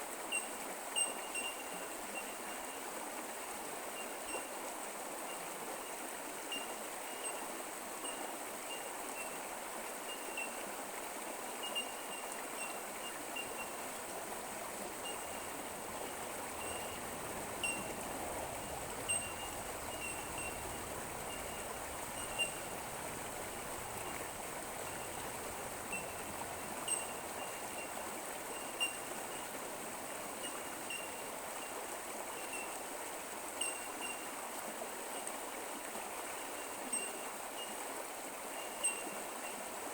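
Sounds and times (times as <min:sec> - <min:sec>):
creek water trickling over rocks: 0:00.0 - 0:39.9.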